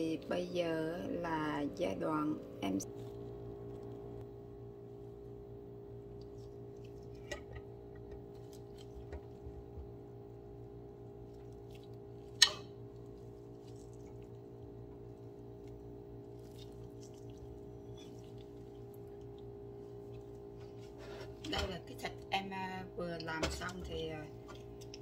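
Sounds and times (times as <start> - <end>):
appliance hum: 0.0 - 25.0.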